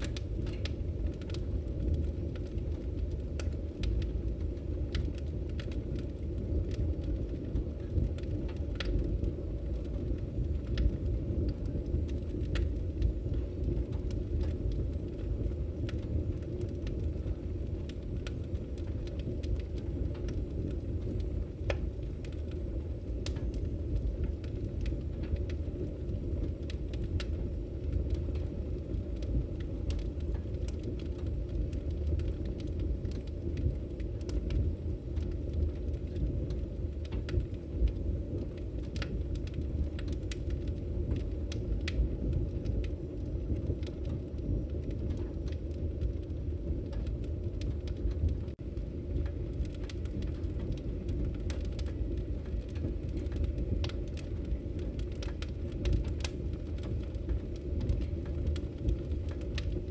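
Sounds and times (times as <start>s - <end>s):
fire crackles and pops: 0.0s - 59.9s
wood fire rumbling: 0.0s - 59.9s.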